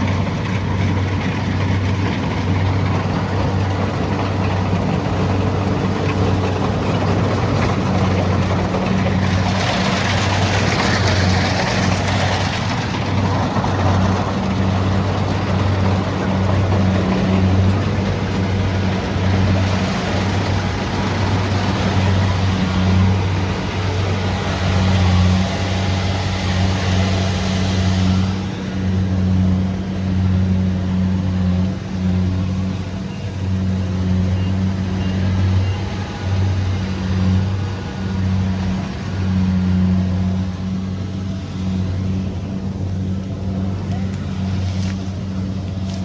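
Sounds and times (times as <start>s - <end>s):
combine harvester engine drone: 0.0s - 46.0s.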